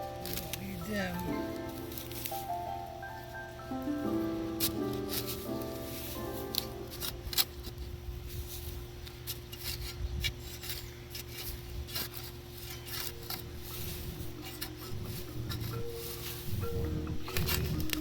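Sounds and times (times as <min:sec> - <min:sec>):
garden tools clicking and scraping: 0:00.0 - 0:03.0, 0:04.5 - 0:18.0.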